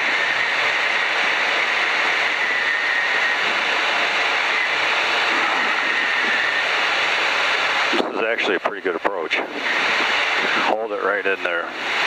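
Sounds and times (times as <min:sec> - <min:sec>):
airplane cabin engine noise: 0:00.0 - 0:12.0.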